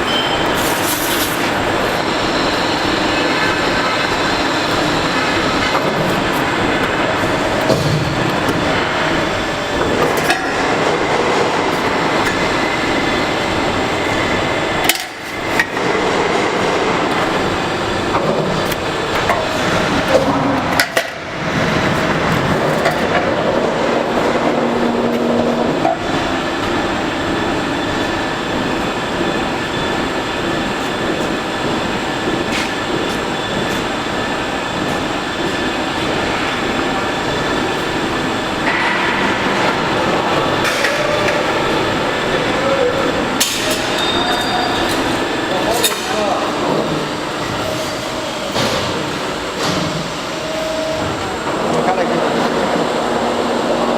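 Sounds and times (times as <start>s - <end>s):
press brake machine running: 0.0s - 53.9s.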